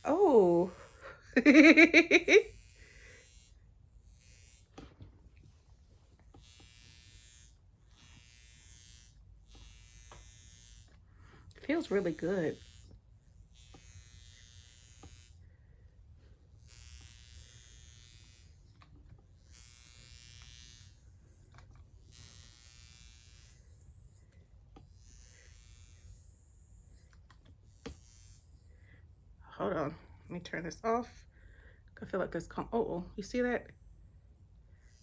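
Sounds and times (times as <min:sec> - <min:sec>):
facial machine buzzing: 0:00.0 - 0:35.0.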